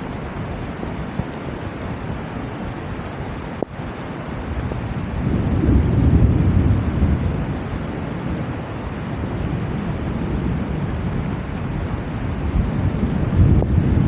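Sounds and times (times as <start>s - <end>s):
gusty wind: 0.0s - 14.0s
heavy rain hissing: 0.0s - 14.0s.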